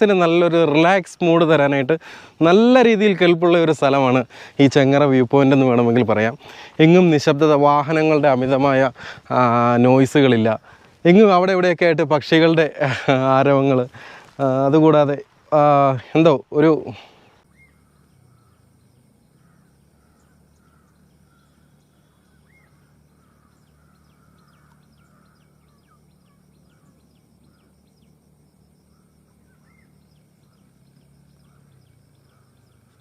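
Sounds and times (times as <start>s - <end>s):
faint birds chirping: 0.0s - 33.0s
low steady hum: 0.0s - 33.0s.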